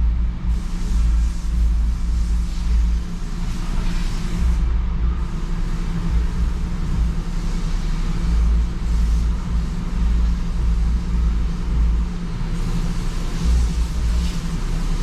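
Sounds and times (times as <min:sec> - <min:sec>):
car engine rumble from inside cabin: 0:00.0 - 0:15.0.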